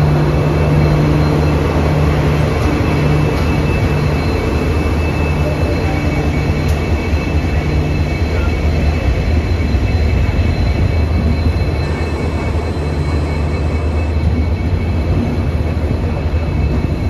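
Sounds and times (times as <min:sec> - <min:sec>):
high wheel squeal: 0:00.0 - 0:17.0
train wheels rumbling on rails: 0:00.0 - 0:17.0.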